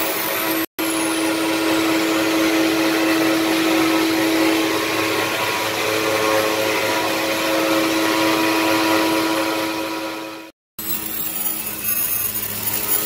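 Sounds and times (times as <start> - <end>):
machine motor humming: 0.0 - 10.5.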